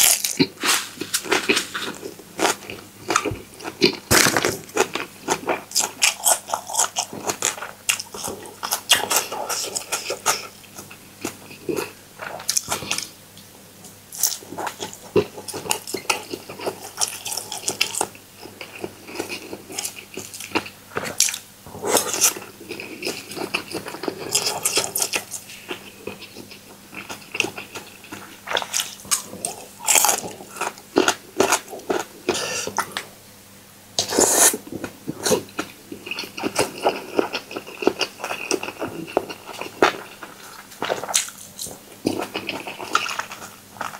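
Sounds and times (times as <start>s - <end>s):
chewing: 0.0s - 13.1s, 14.2s - 33.1s, 34.0s - 43.9s.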